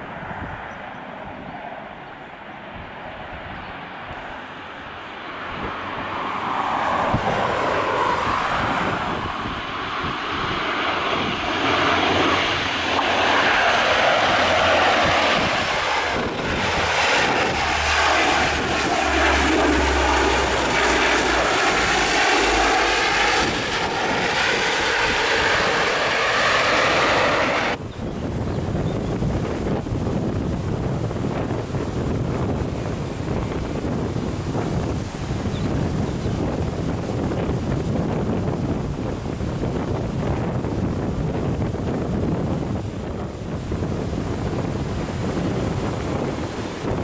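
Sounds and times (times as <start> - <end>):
propeller airliner droning: 0.0 - 47.0.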